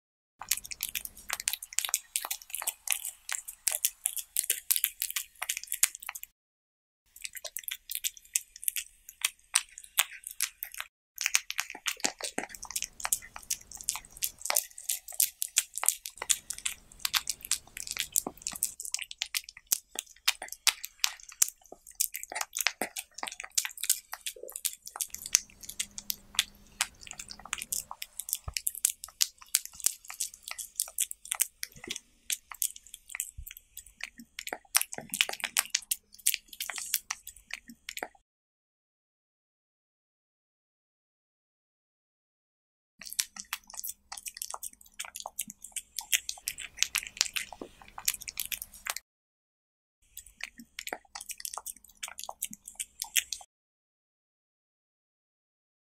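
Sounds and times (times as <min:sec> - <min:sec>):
cat crunching vegetables: 0:00.4 - 0:06.3, 0:07.1 - 0:38.1, 0:43.0 - 0:49.0, 0:50.1 - 0:53.4.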